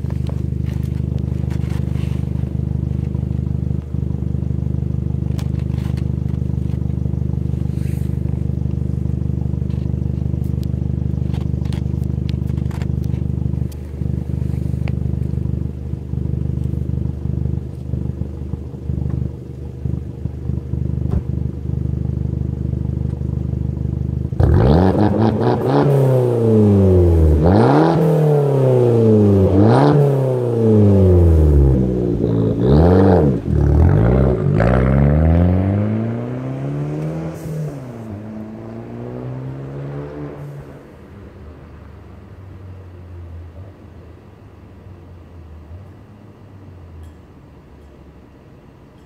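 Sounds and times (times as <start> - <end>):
car engine revving: 0.0 - 41.1.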